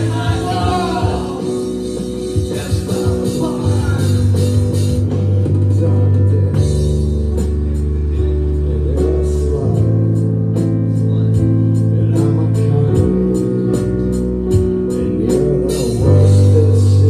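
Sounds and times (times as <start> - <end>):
bass guitar low notes: 0.0 - 17.0
drum kit with cymbals: 0.0 - 17.0
keyboards: 0.0 - 17.0
live rock band playing: 0.0 - 17.0.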